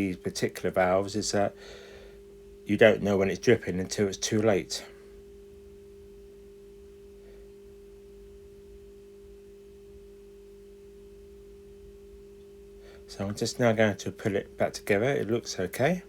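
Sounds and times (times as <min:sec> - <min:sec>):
two-tone hum: 0:00.0 - 0:16.0.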